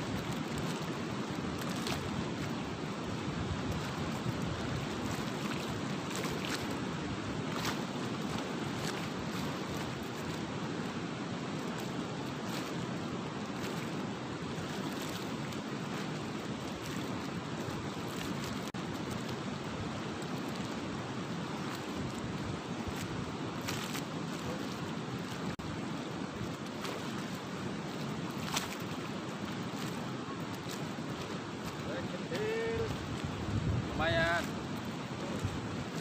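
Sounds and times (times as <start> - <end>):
fast-flowing river water: 0.0 - 36.0
wind: 0.0 - 36.0.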